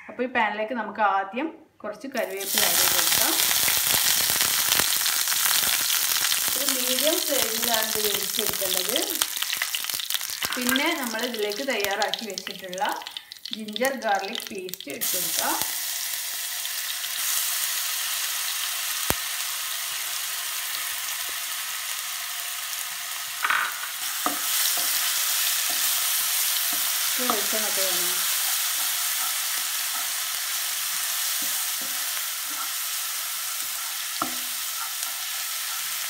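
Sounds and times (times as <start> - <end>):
paste sizzling in hot oil: 2.2 - 36.0.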